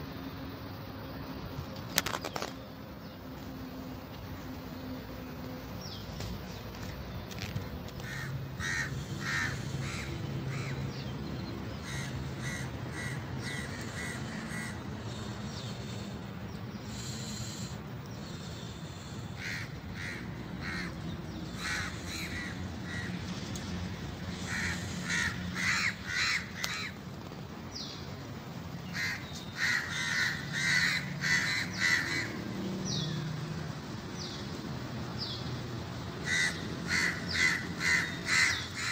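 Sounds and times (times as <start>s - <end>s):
birds calling: 0.8s - 38.9s.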